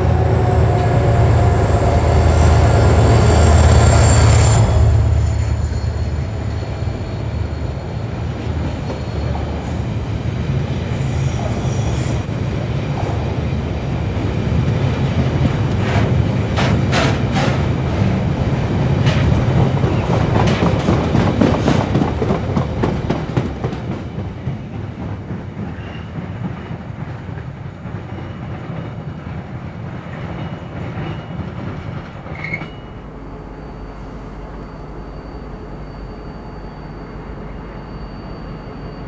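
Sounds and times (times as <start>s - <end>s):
train wagons rumbling past: 0.0s - 39.0s.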